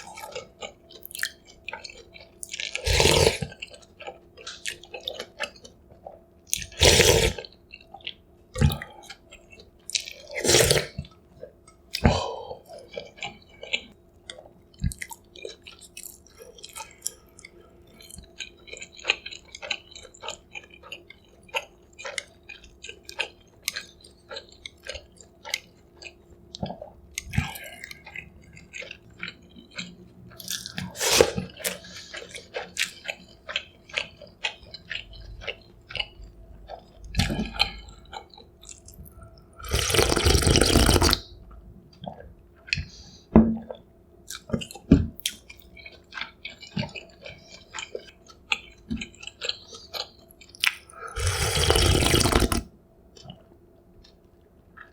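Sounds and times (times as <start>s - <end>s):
chewing: 0.0s - 41.3s, 41.9s - 52.6s.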